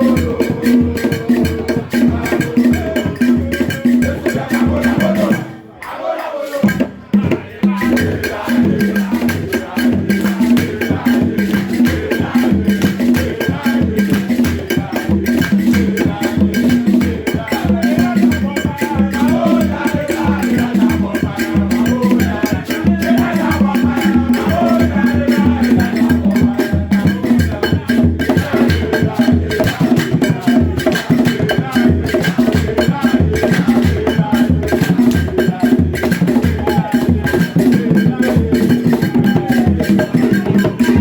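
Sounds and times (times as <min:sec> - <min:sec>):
loud music with percussion beat: 0:00.0 - 0:41.0.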